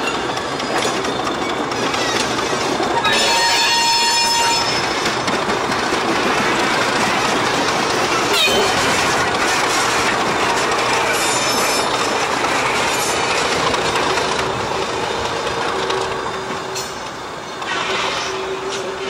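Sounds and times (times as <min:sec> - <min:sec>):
diesel locomotive engine running: 0:00.0 - 0:19.0
wheels rolling on rails: 0:00.0 - 0:19.0.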